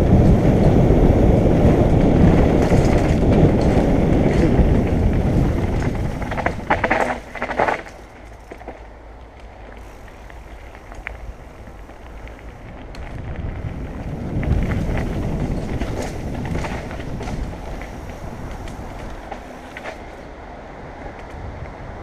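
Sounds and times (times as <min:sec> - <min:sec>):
bike knocks and rattles: 0:00.0 - 0:20.3
mountain bike rumbling on dirt: 0:00.0 - 0:21.3.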